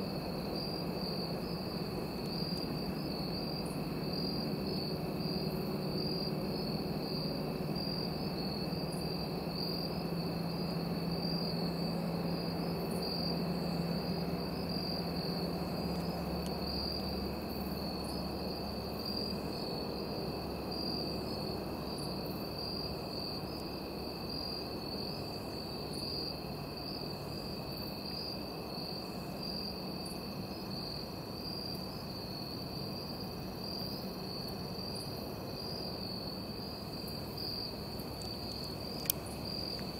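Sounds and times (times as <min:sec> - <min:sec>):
crickets and insects chirring: 0:00.0 - 0:39.9.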